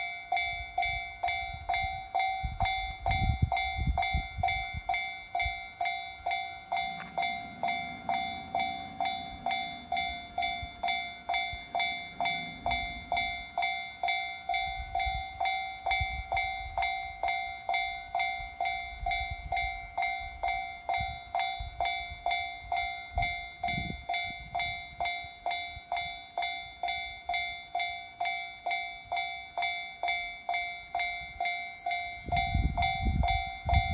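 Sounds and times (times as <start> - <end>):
level crossing warning bell: 0.0 - 33.9
passing train rumble: 0.0 - 33.9.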